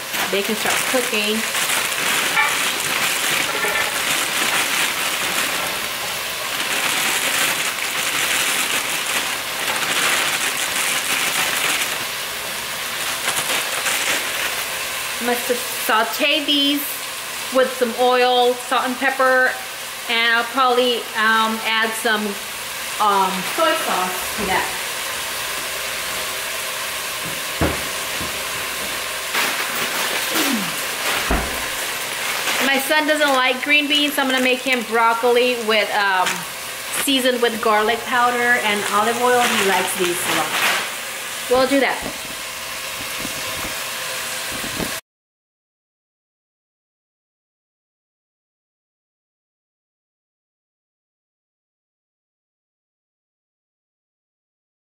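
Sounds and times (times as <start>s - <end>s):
beans sizzling in hot oil: 0.0s - 45.0s.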